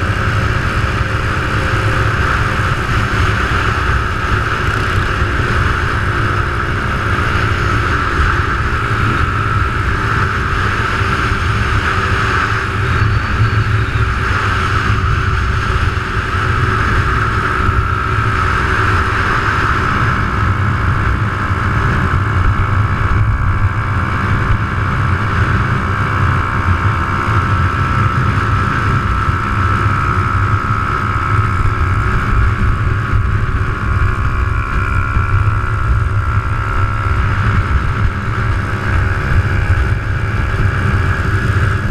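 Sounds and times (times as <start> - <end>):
small motorcycle engine running: 0.0 - 41.9
steady high whine: 0.0 - 41.9
wind rumble on microphone: 0.0 - 41.9.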